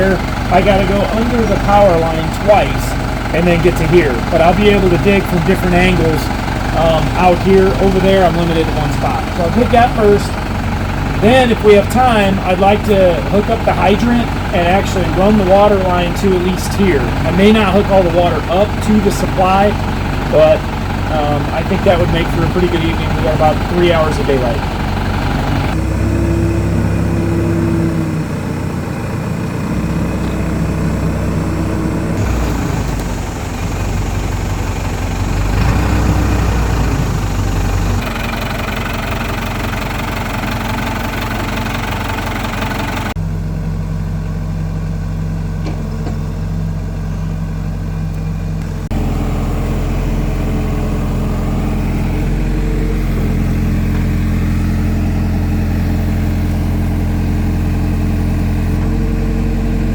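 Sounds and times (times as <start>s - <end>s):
digging machine engine running: 0.0s - 59.9s.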